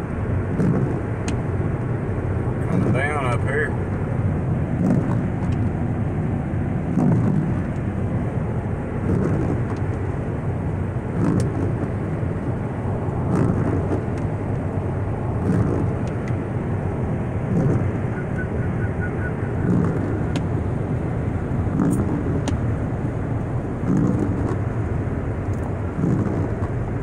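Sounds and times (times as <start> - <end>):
car road noise on wet road: 0.0 - 27.0
windshield wipers swishing: 0.4 - 27.0.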